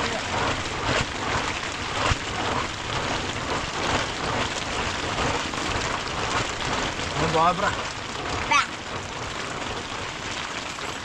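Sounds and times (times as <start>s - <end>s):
rain striking a surface: 0.0s - 11.0s.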